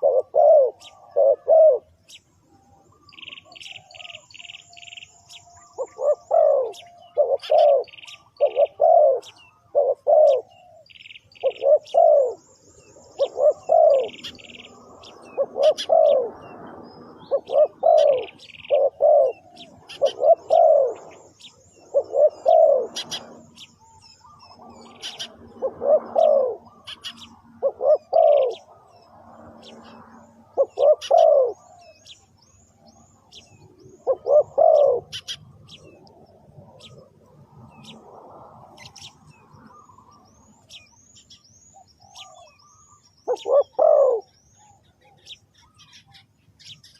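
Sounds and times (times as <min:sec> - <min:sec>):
dove cooing: 0:00.0 - 0:12.4, 0:13.1 - 0:32.2, 0:33.2 - 0:40.3, 0:42.0 - 0:45.4
small birds chirping faintly: 0:00.0 - 0:46.9.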